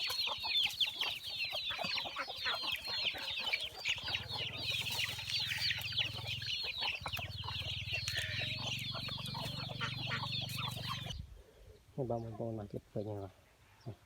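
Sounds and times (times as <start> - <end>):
chickens peeping and clucking: 0.0 - 14.0.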